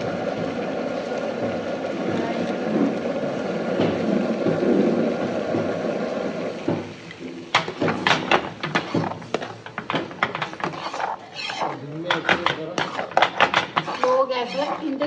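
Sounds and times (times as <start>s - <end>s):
curry simmering and bubbling: 0.0s - 15.0s
gas burner roaring: 0.0s - 15.0s.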